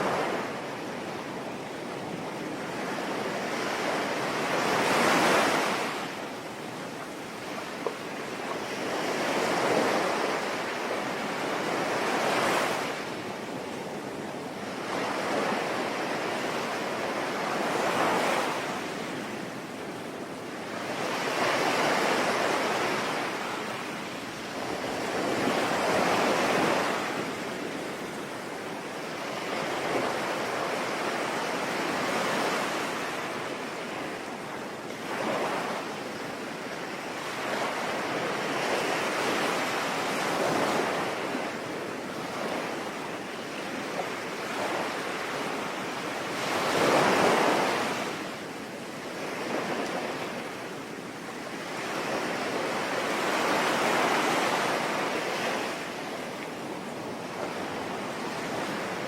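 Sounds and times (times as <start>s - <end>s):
ocean waves breaking: 0.0s - 19.7s, 20.4s - 59.0s.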